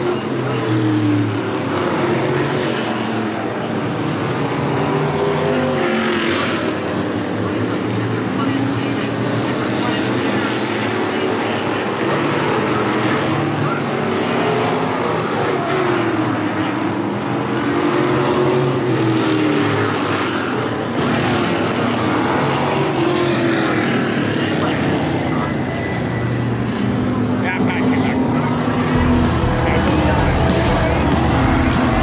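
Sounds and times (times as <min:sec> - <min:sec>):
race car engines droning: 0:00.0 - 0:32.0.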